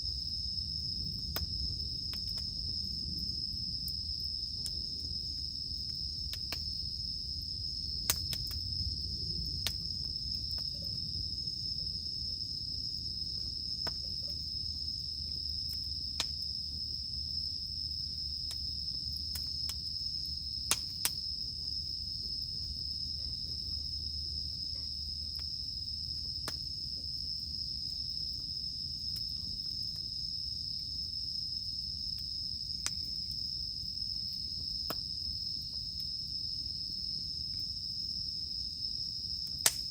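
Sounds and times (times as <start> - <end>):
cicadas droning: 0.0 - 39.9
campfire crackling and popping: 0.2 - 31.0, 32.0 - 36.2, 39.3 - 39.9.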